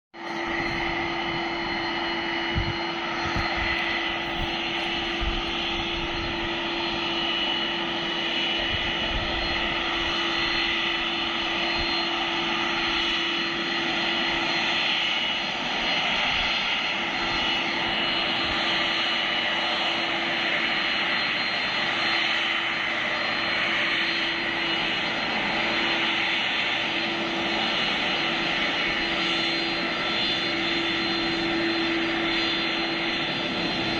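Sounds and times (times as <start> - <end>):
high engine whines: 0.2 - 33.9
jet engines droning: 0.2 - 33.9.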